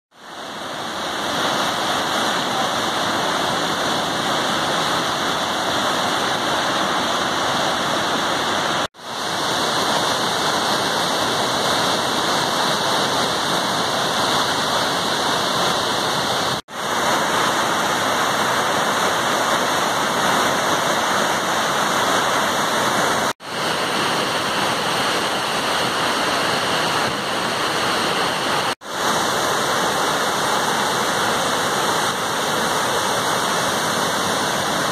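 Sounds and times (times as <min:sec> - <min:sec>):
rushing whitewater: 0:00.2 - 0:34.9.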